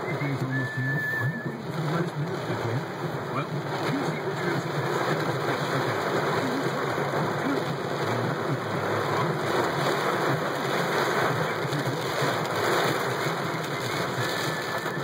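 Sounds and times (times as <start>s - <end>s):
heavy rain on car roof: 0.0s - 15.0s.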